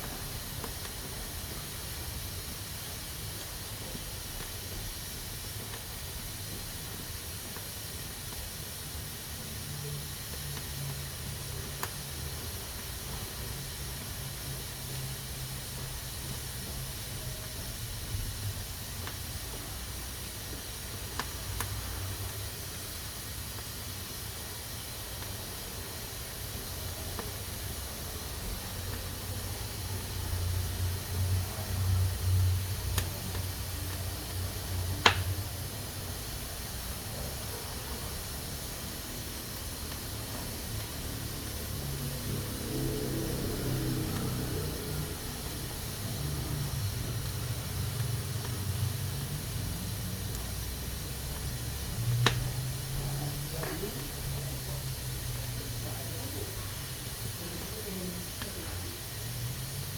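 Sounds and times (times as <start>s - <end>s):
pressure cooker hissing: 0.0s - 59.9s.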